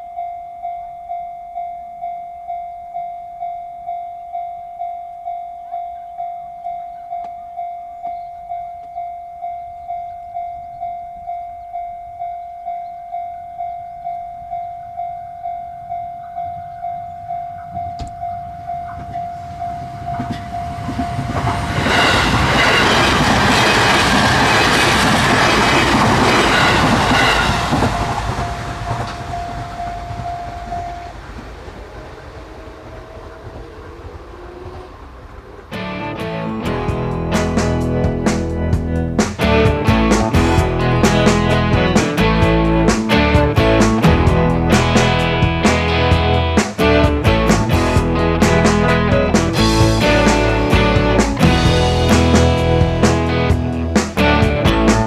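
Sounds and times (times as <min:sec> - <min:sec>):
crossing warning bell ringing: 0:00.0 - 0:53.9
electric train passing: 0:00.0 - 0:55.0.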